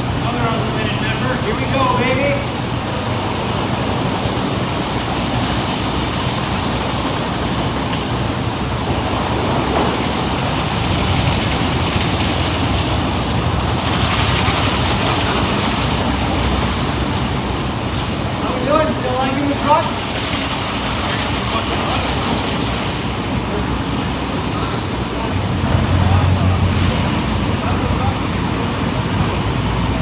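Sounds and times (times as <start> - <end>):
car wash machinery rushing: 0.0 - 30.0.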